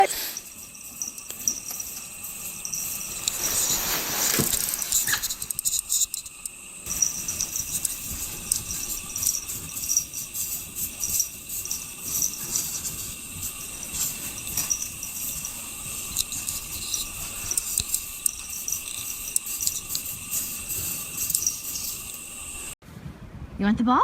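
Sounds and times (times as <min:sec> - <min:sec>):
insect-like chirring: 0:00.0 - 0:22.8.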